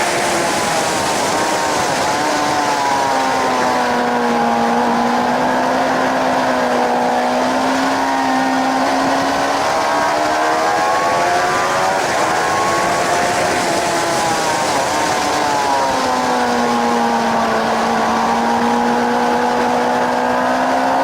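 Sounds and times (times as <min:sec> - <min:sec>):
motorcycle engine at speed: 0:00.0 - 0:21.0
wind rush: 0:00.0 - 0:21.0.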